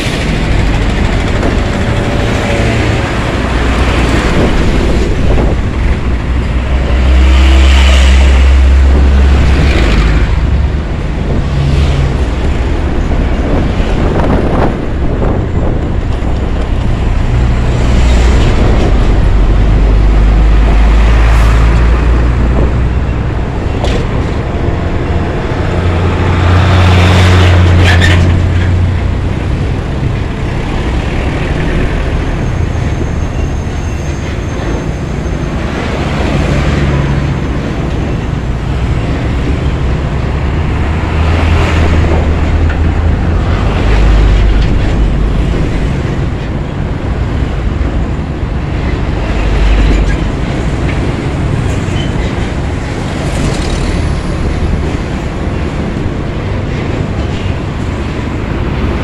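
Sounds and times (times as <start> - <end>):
diesel truck engines rumbling: 0.0 - 59.0
road and wind noise: 0.0 - 59.0.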